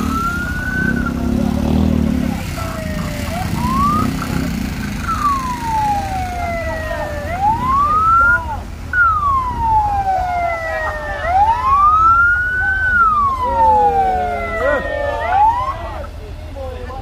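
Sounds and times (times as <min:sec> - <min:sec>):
ambulance siren wailing: 0:00.0 - 0:16.2
vehicle engines rumbling: 0:00.0 - 0:17.0.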